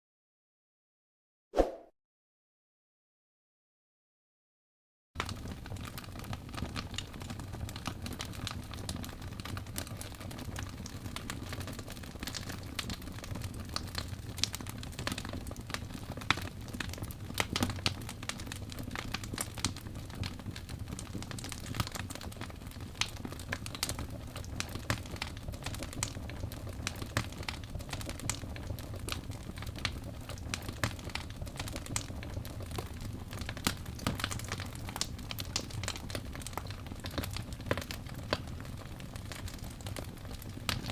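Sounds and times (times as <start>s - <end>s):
fire crackling and popping: 5.2s - 40.9s
low rumble of burning: 5.2s - 40.9s.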